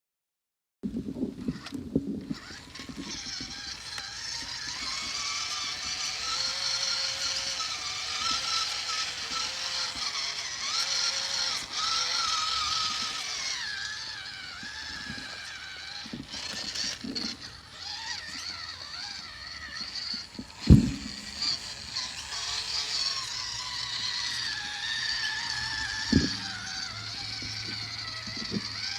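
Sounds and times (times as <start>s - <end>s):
toy truck electric motor whine: 1.2s - 28.9s.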